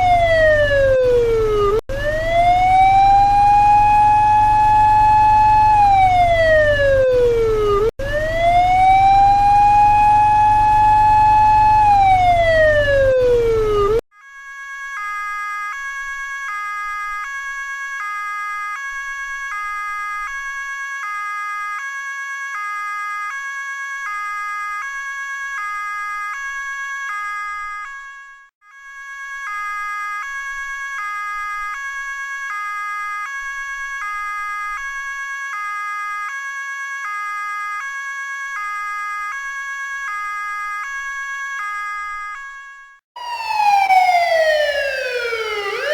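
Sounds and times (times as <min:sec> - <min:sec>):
two-tone hi-lo siren: 0:00.0 - 0:45.9
wailing police siren: 0:00.0 - 0:45.9.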